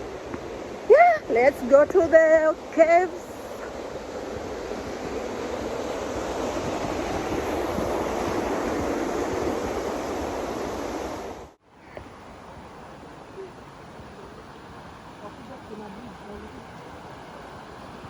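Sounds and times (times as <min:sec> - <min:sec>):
rushing flowing water: 0:00.0 - 0:18.0.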